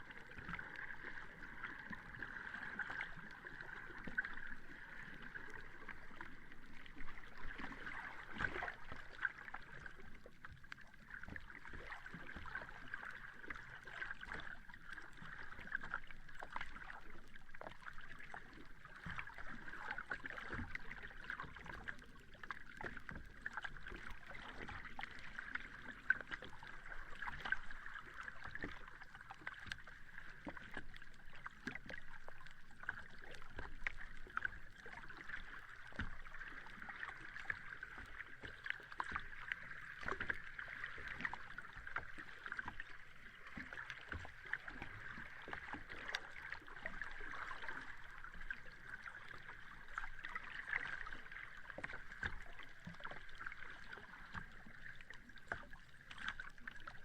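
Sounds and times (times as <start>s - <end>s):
sea water lapping at shore: 0.0s - 57.0s.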